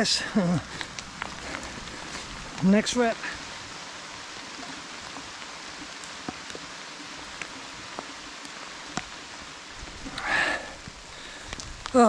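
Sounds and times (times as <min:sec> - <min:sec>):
raindrops ticking close by: 0:00.0 - 0:12.0
steady rain hissing: 0:00.0 - 0:12.0.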